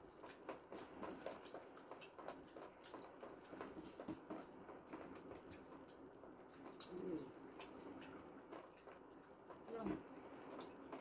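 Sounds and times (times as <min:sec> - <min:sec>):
chewing and mouth clicks: 0:00.1 - 0:09.7.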